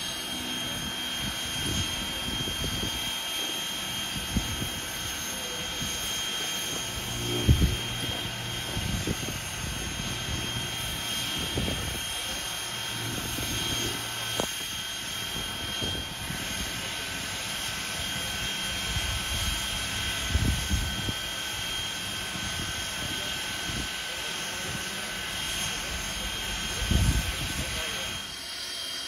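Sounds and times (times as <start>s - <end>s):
steam locomotive hissing: 0.0s - 29.0s
thin whining tones: 0.0s - 29.0s.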